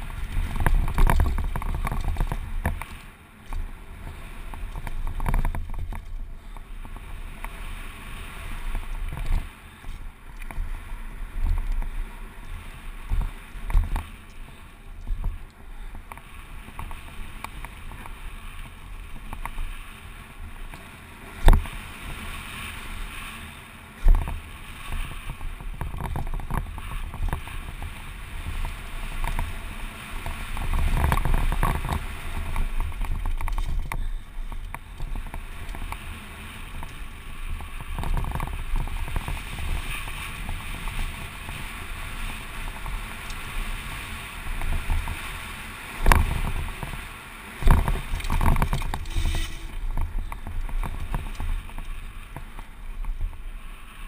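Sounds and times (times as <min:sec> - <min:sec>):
bike tyres and frame rattling: 0:00.0 - 0:54.0
wind rush and rumble: 0:00.0 - 0:54.0.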